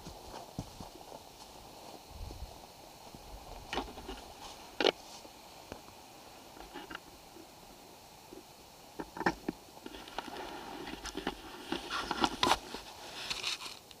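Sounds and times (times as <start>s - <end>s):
rustling: 0.0s - 7.5s, 9.0s - 14.0s.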